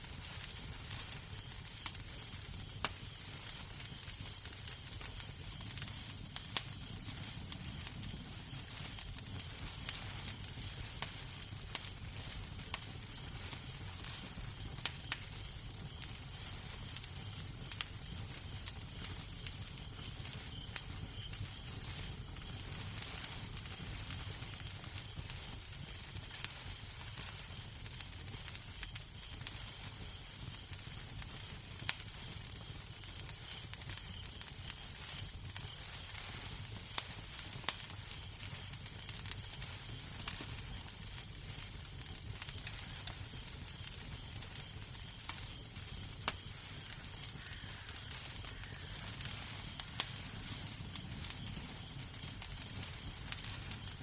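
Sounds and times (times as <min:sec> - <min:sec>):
fire crackles and pops: 0:00.0 - 0:54.0
fire hissing: 0:00.0 - 0:54.0
low fire rumble: 0:00.0 - 0:54.0.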